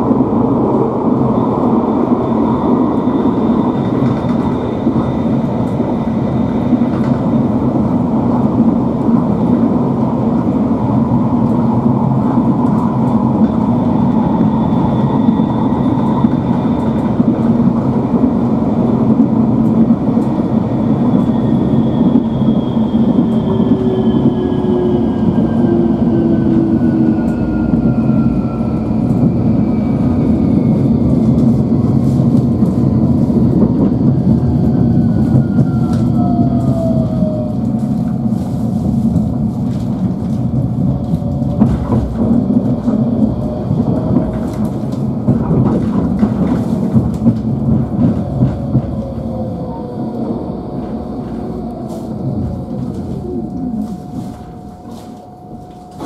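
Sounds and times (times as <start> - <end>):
tram rolling on rails: 0.0 - 56.0.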